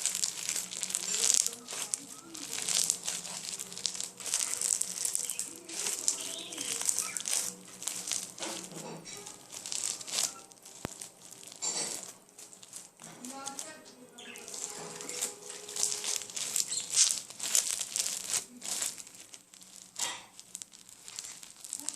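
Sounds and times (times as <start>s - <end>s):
slime squishing and crackling: 0.0s - 21.9s.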